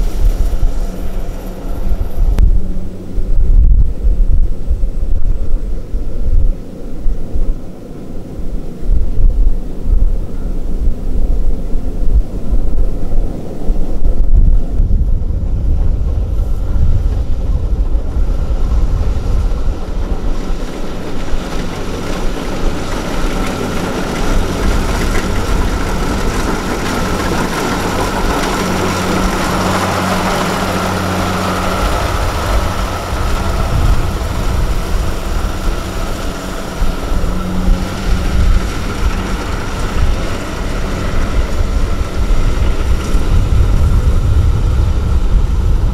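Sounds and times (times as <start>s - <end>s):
farm machine engine running: 0.0s - 8.9s, 9.8s - 45.9s
wind on microphone rumble: 0.0s - 45.9s.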